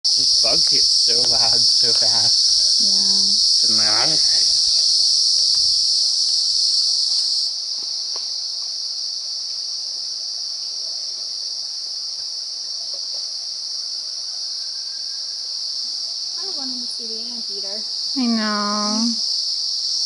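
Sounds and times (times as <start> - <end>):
insect chorus buzzing: 0.1 - 20.0.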